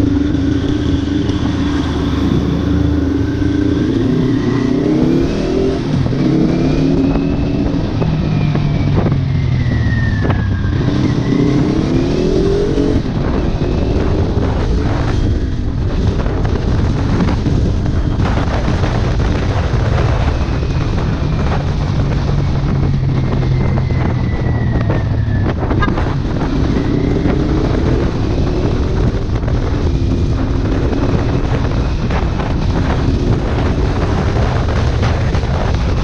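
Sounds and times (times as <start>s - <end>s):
motorcycle engine revving: 0.0s - 36.0s
wind buffeting microphone: 0.0s - 36.0s.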